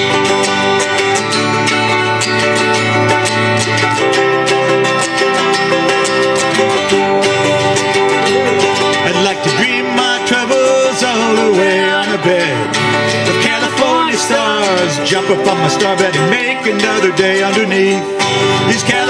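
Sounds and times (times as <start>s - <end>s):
acoustic guitars strumming: 0.0s - 19.0s
wordless vocal melody: 0.0s - 19.0s.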